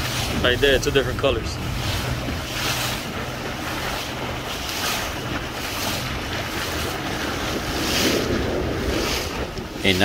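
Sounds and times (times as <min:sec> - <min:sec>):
motorboat engine drone: 0:00.0 - 0:10.0
rushing water: 0:00.0 - 0:10.0
wind buffeting microphone: 0:00.0 - 0:10.0.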